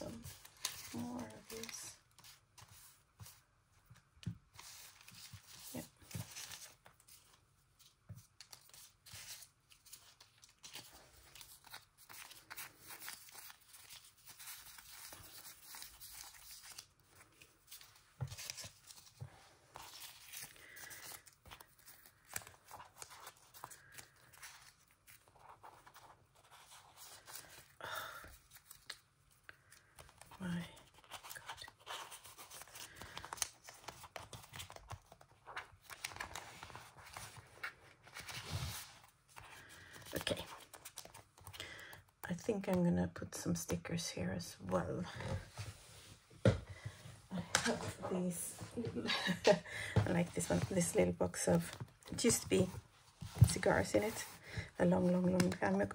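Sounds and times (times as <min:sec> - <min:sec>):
paper stickers rustling: 0:00.0 - 0:03.4, 0:04.5 - 0:42.1, 0:50.2 - 0:55.9.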